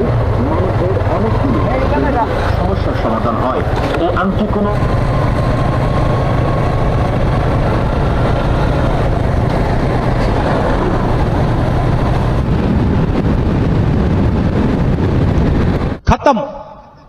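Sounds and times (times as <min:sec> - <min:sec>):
motorcycle engine droning: 0:00.0 - 0:16.0
wind rush on microphone: 0:00.0 - 0:16.1.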